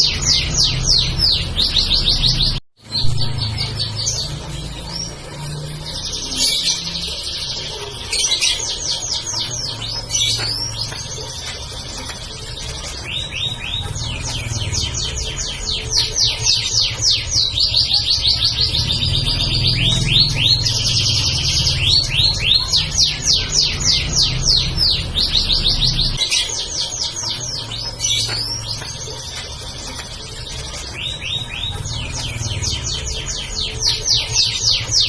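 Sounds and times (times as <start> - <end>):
canary singing trills: 0.0 - 35.0.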